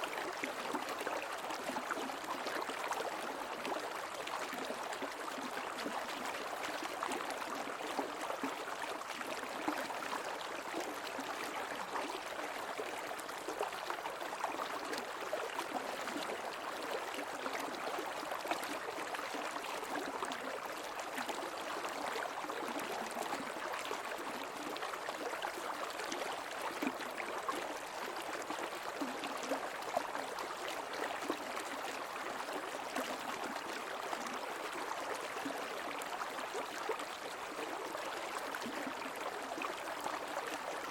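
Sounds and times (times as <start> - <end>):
creek water gurgling over stones: 0.0 - 40.9.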